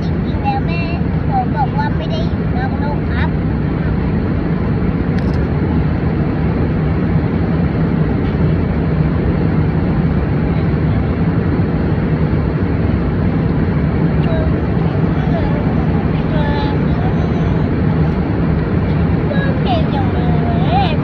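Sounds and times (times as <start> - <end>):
airplane cabin noise: 0.0 - 21.0.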